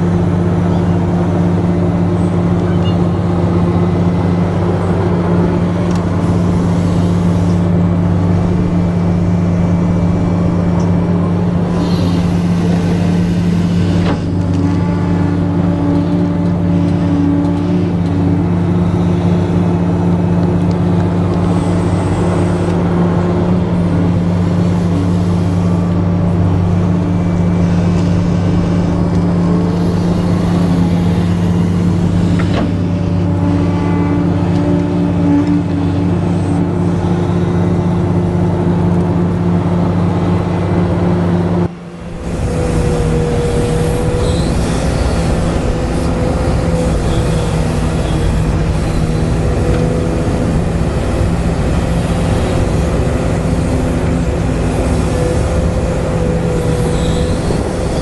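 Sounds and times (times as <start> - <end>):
toy excavator mechanical hum: 0.1 - 39.3, 41.6 - 58.0
higher whirring: 1.5 - 58.0.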